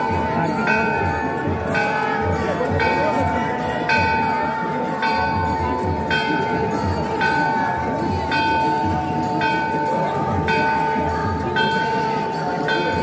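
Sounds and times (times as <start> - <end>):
crowd voices: 0.0 - 13.0
temple bell ringing: 0.0 - 13.0.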